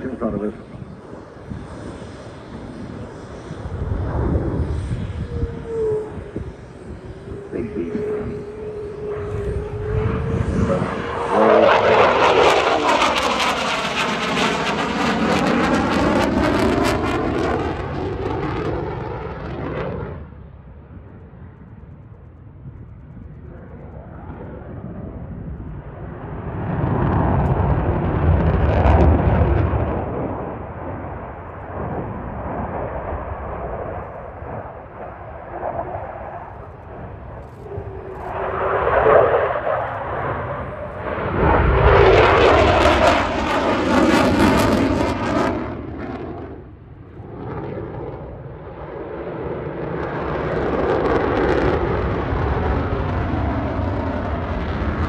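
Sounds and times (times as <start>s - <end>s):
fighter jet engines roaring: 0.0s - 55.0s.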